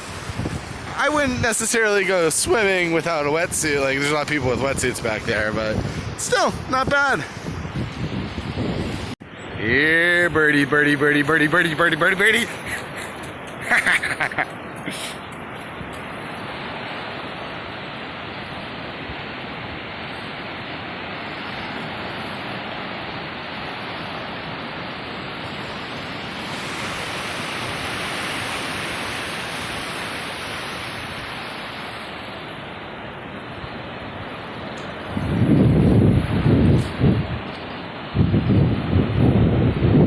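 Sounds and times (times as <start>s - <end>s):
ocean surf washing on shore: 0.0s - 40.0s.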